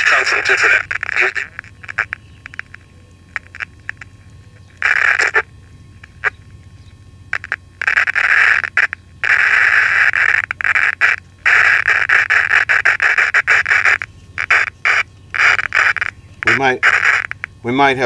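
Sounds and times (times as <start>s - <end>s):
radio speaker harsh noise bursts: 0.0s - 6.6s, 7.3s - 18.0s.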